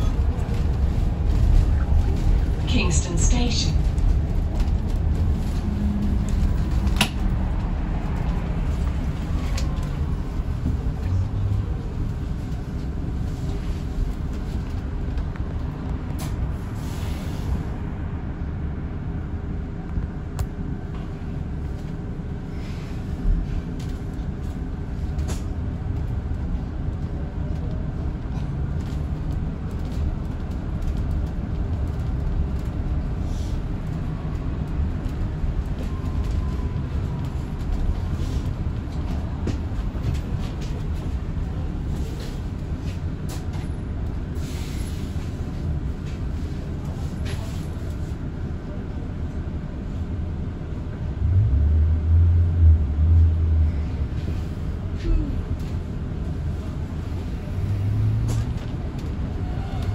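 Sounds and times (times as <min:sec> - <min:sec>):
bus interior rumble: 0:00.0 - 0:59.9.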